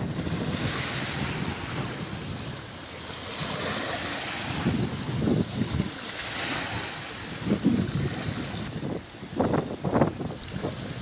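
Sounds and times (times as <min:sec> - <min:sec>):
waves washing onto stony shore: 0:00.0 - 0:11.0
wind buffeting microphone: 0:00.0 - 0:11.0.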